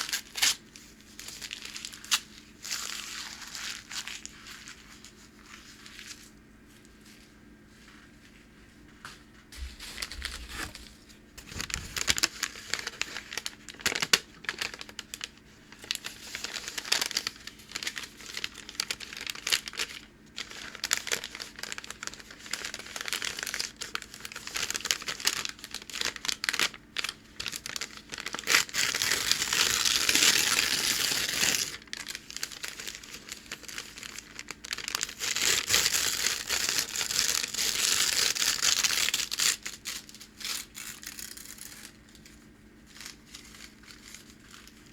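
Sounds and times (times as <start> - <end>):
packing paper crinkling and tearing: 0.0 - 6.3, 9.6 - 44.9.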